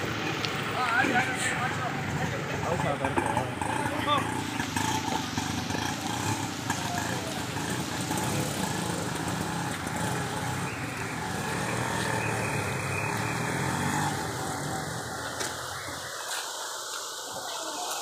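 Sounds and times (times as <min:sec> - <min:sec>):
vehicle engine rumbling: 0:00.0 - 0:17.3.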